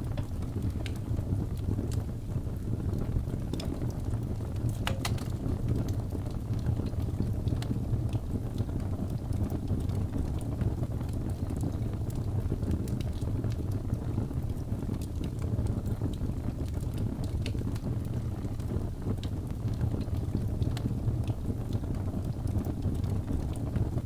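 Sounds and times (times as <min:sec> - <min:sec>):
logs burning in fireplace: 0:00.0 - 0:24.0.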